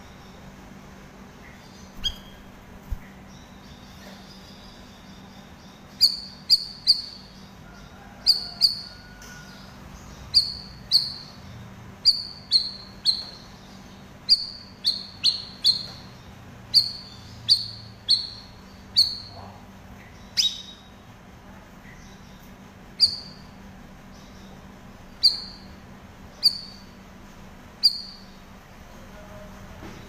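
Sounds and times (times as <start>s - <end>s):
bird chirping: 1.4s - 21.1s, 21.8s - 27.1s, 27.7s - 28.6s.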